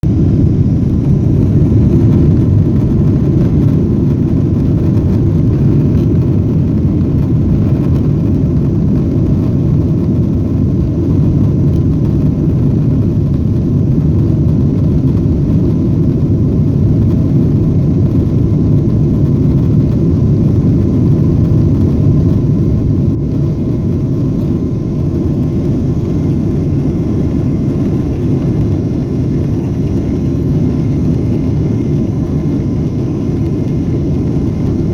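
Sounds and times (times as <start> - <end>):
jet airliner low rumble: 0.0 - 34.9.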